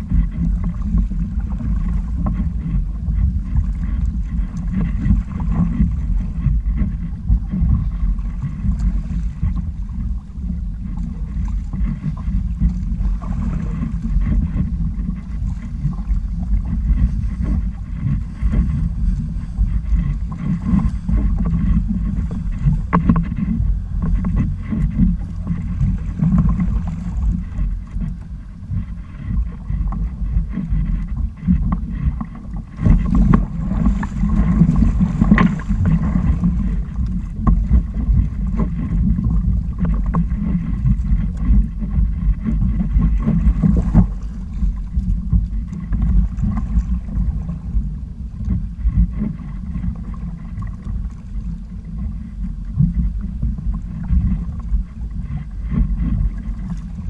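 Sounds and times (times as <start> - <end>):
water splashing against hulls: 0.0 - 57.0
wind buffeting microphone: 0.0 - 57.0.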